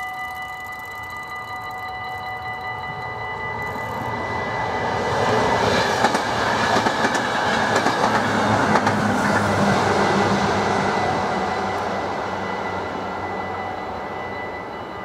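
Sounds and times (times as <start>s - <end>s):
crossing warning bell ringing: 0.0s - 8.8s, 9.6s - 15.0s
train rumbling past: 2.4s - 15.0s.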